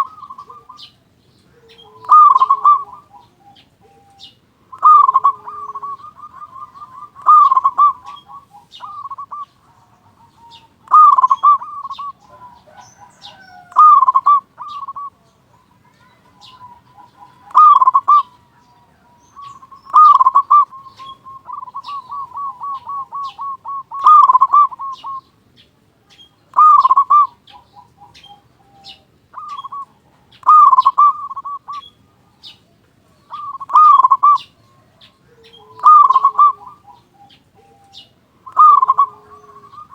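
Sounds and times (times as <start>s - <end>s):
dove cooing: 0.0s - 25.4s, 26.1s - 39.9s.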